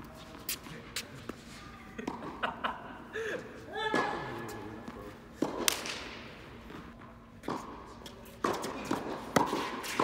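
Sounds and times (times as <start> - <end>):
tennis balls hit and bouncing: 0.1 - 2.5, 3.9 - 10.0.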